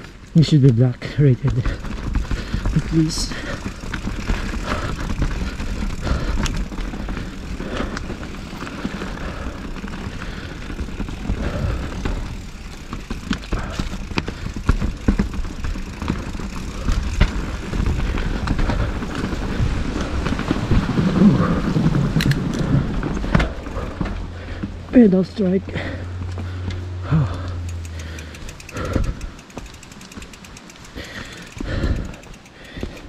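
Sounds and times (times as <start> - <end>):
bike rattles and knocks: 0.0 - 33.0
wind and tyre rumble: 0.0 - 33.0.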